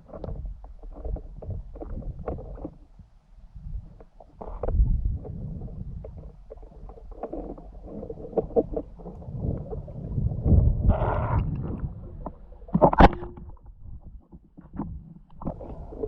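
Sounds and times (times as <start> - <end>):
underwater water rumble and gurgling: 0.0 - 16.0.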